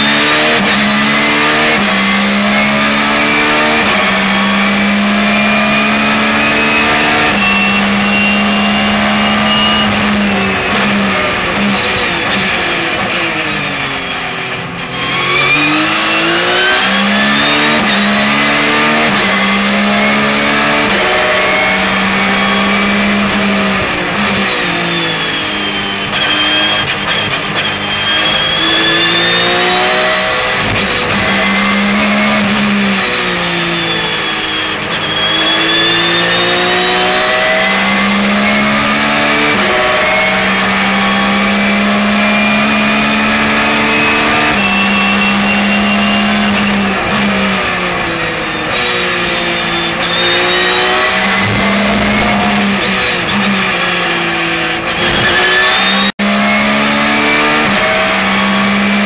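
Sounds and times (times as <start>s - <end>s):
racing car engine at full throttle: 0.0s - 59.0s.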